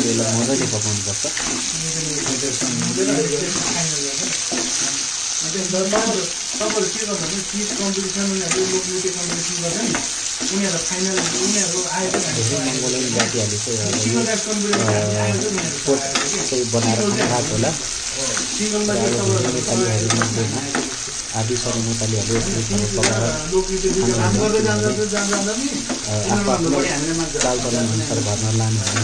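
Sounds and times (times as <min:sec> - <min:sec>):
curry sizzling in a pan: 0:00.0 - 0:29.0.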